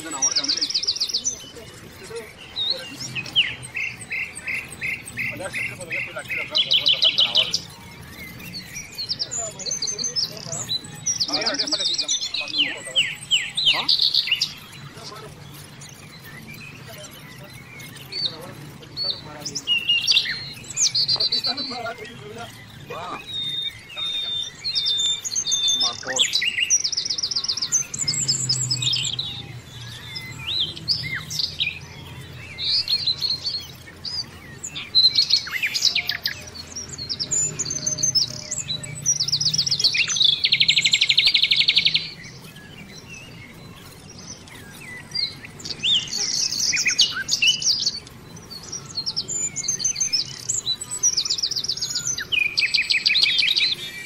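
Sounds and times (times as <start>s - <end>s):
fast rattling bird trills: 0.0s - 54.0s
small birds chirping: 0.0s - 54.0s.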